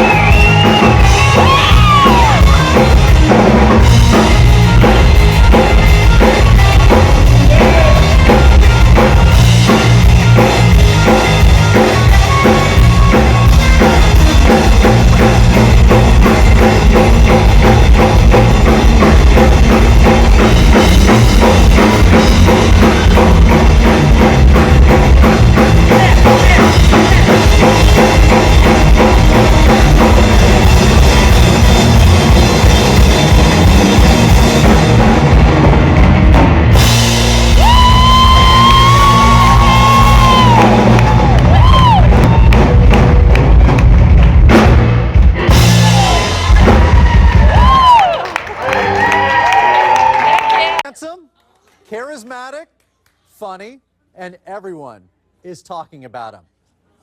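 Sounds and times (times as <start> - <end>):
instrumental rock music: 0.0 - 50.0
drum kit beat: 0.0 - 50.8.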